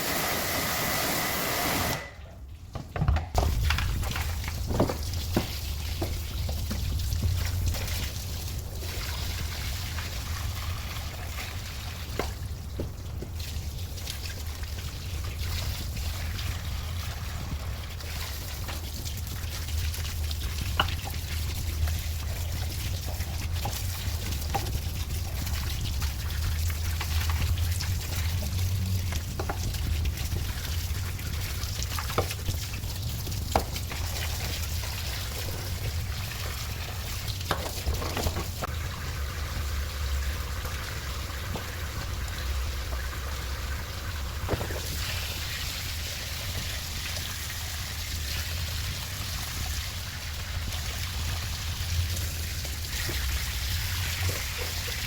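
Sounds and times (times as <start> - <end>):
liquid trickling and pouring: 3.4 - 55.0.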